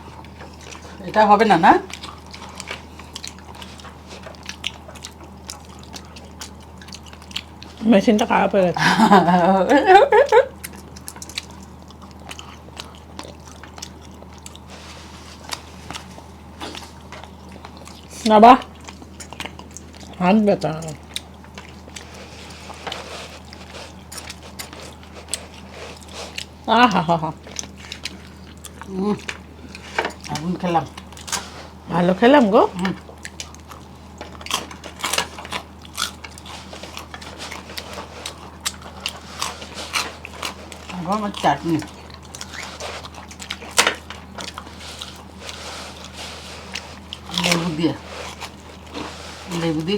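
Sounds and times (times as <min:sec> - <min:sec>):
person chewing food: 0:00.0 - 0:08.4, 0:09.6 - 0:49.9
steady low hum: 0:00.0 - 0:49.9.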